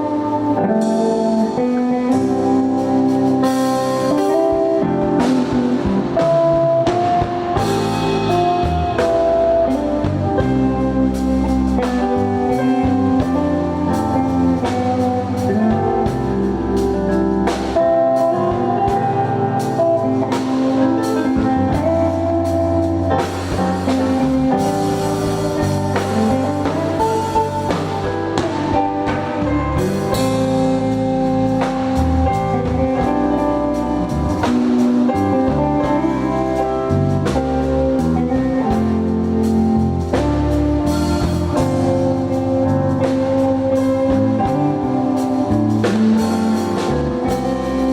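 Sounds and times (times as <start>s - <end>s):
drum kit: 0.0s - 47.9s
guitar: 0.0s - 47.9s
instrumental gospel music: 0.0s - 47.9s.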